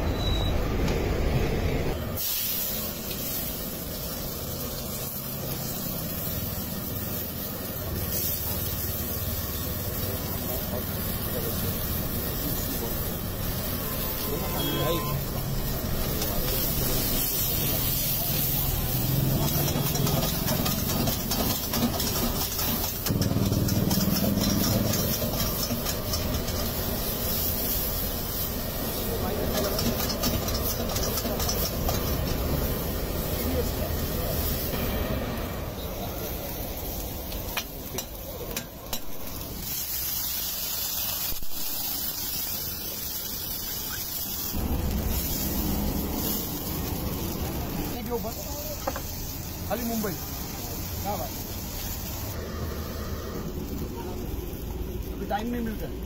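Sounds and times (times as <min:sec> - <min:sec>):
gas burner rushing hum: 0:00.0 - 0:56.0
water sizzling in hot wok: 0:01.9 - 0:56.0.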